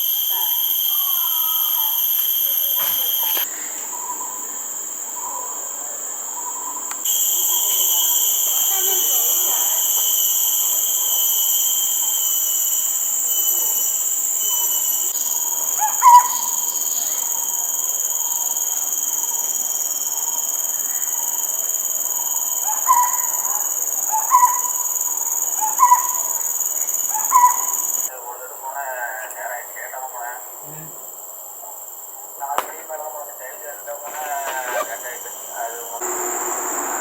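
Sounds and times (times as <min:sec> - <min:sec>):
insect chorus: 0:00.0 - 0:37.0.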